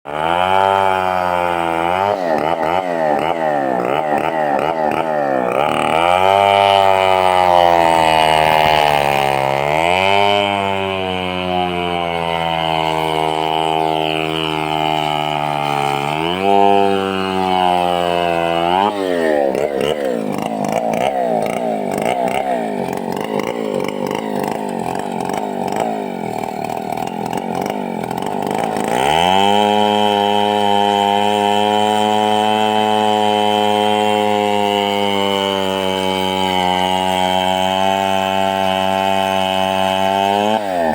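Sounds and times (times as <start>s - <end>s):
chainsaw cutting log: 0.1s - 40.9s.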